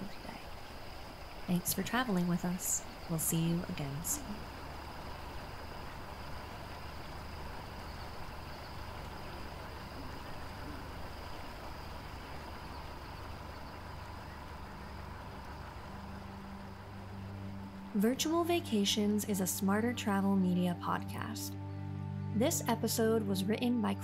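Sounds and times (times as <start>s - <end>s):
boat engine drone: 0.0s - 23.8s
river ambience hiss: 0.0s - 24.0s.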